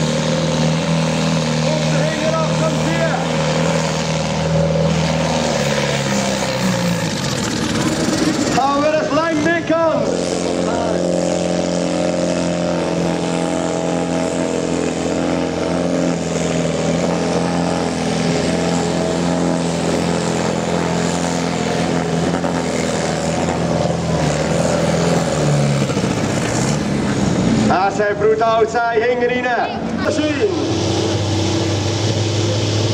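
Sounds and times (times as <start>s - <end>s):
tractor engine under heavy load: 0.0s - 32.9s.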